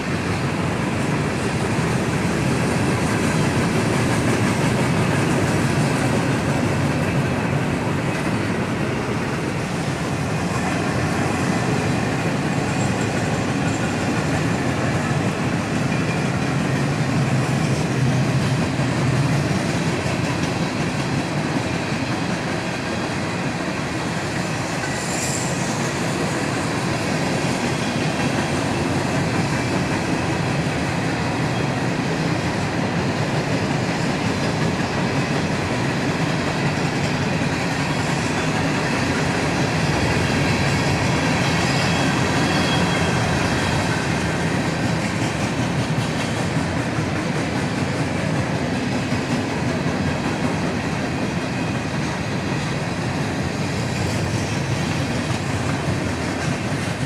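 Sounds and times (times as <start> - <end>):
train rolling along rails: 0.0 - 57.0.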